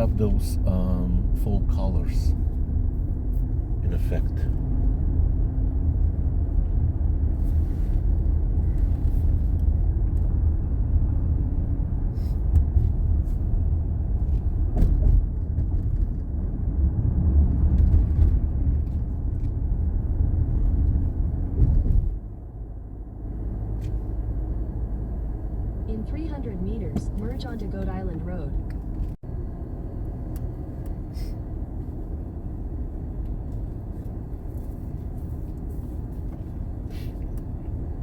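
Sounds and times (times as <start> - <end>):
road and engine rumble in car: 0.0 - 38.0.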